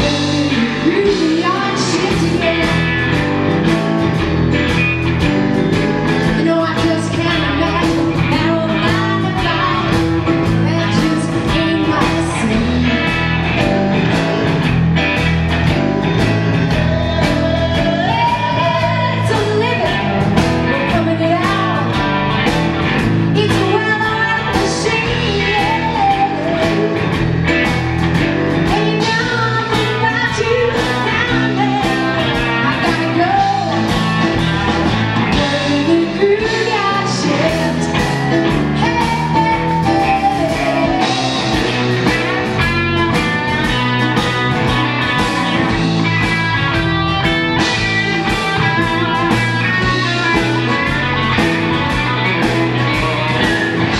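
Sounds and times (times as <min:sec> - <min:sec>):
bass guitar: 0:00.0 - 0:53.9
drums keeping a steady beat: 0:00.0 - 0:53.9
electric guitar: 0:00.0 - 0:53.9
woman singing lead: 0:00.0 - 0:53.9.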